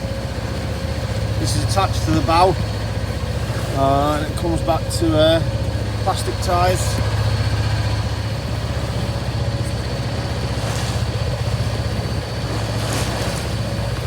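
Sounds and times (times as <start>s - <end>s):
boat engine throbbing: 0.0s - 14.0s
rush of wind or water: 0.0s - 14.0s.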